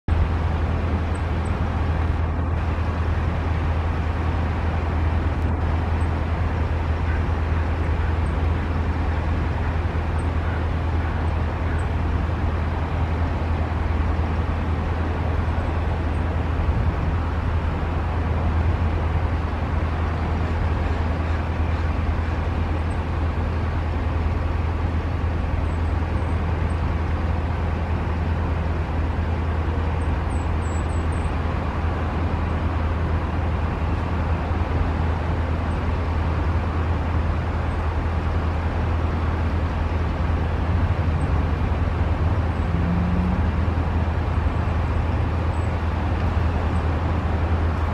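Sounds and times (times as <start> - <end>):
road traffic rumble: 0.0 - 47.9.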